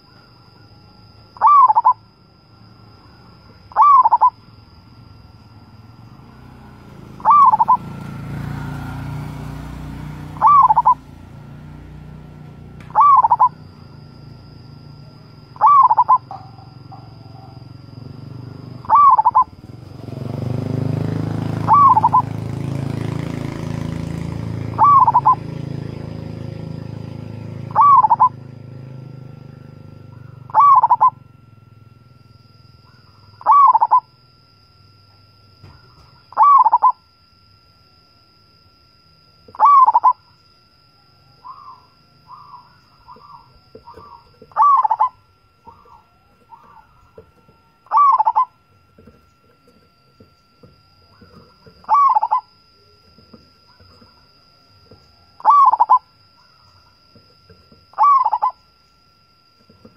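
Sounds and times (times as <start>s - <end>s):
dove cooing: 0.0s - 31.4s, 32.6s - 37.1s, 39.5s - 59.9s.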